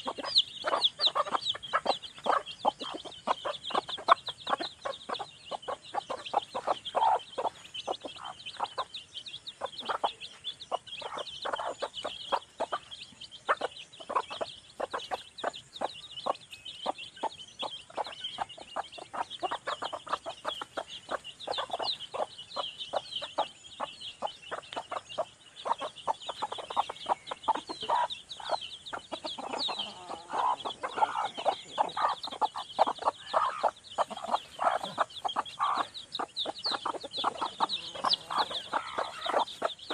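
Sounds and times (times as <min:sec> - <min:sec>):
chickens clucking: 0:00.0 - 0:39.9
high chick peeps: 0:00.0 - 0:39.9.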